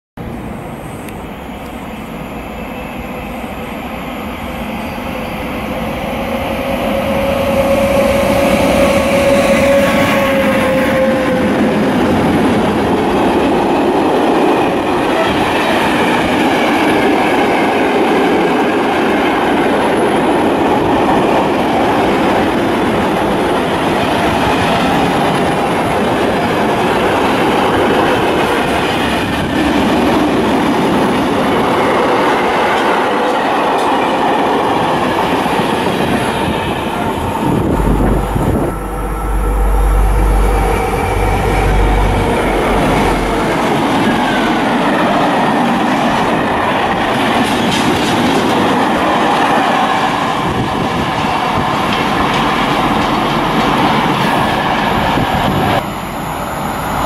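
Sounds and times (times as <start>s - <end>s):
freight train passing: 0.2s - 57.0s.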